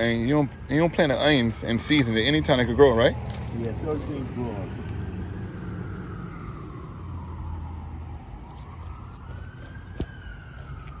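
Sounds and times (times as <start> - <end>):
emergency vehicle siren wailing: 0.0 - 11.0.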